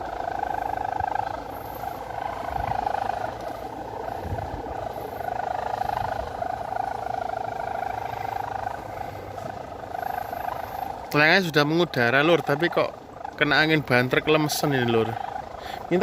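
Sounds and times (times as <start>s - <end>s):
wind buffeting microphone: 0.0s - 14.5s
droning hum: 0.0s - 16.0s.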